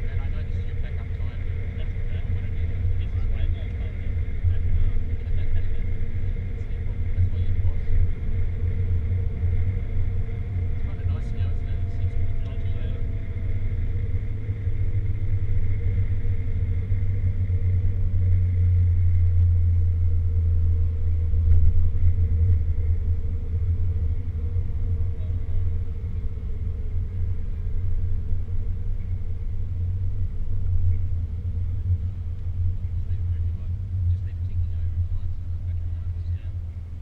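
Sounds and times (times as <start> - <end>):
car engine drone from inside cabin: 0.0 - 37.0.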